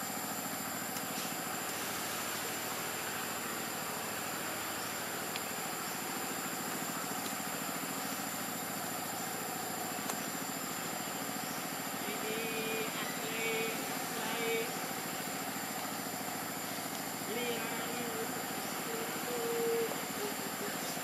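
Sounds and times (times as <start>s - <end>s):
outdoor background noise: 0.0s - 21.0s
steady engine-like hum: 0.0s - 21.0s.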